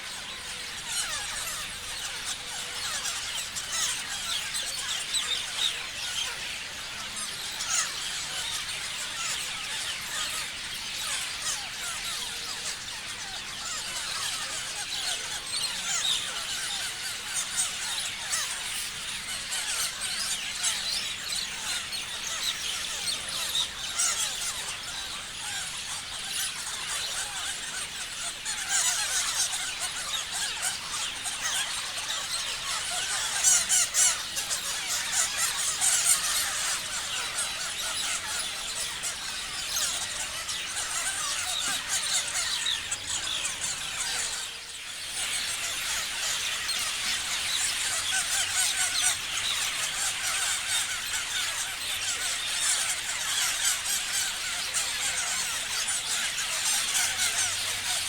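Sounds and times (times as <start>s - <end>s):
parrots chirping and screeching: 0.0s - 58.0s.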